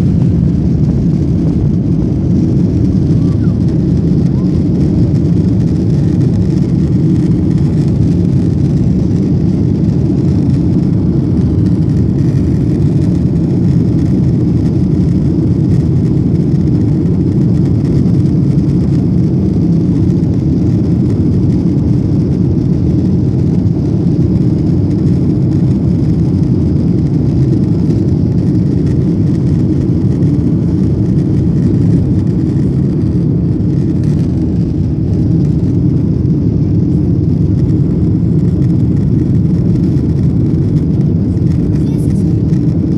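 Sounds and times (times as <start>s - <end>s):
jet engine cabin drone: 0.0s - 42.9s.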